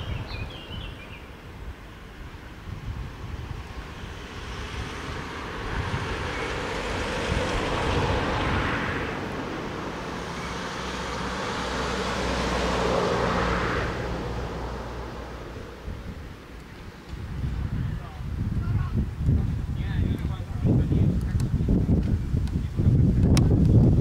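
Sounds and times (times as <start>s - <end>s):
passing engine rushing with low hum: 0.0s - 24.0s.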